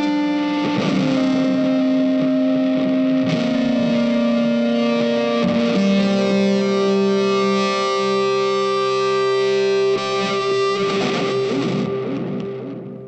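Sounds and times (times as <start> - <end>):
slow guitar with effects: 0.0 - 13.0.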